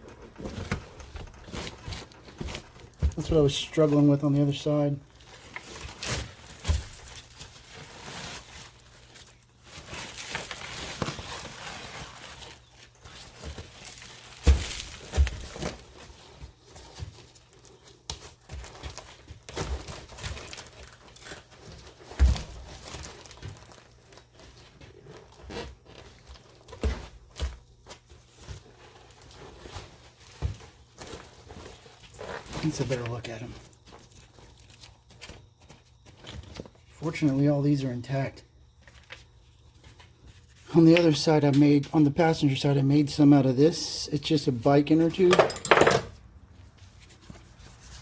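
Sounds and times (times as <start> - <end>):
vinyl rustling and crinkling: 0.0 - 45.4, 46.2 - 48.0.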